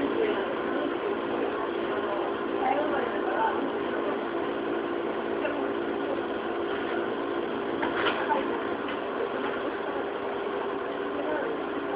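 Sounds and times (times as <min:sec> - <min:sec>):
electric train equipment hum: 0:00.0 - 0:11.9.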